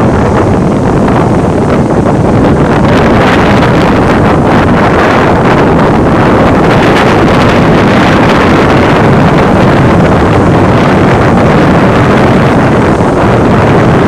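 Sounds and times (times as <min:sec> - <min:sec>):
wind buffeting a microphone: 0:00.0 - 0:14.0.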